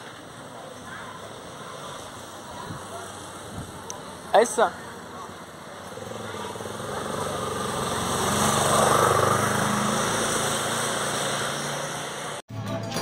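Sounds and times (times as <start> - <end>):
vehicle engine passing by: 1.0 - 12.4.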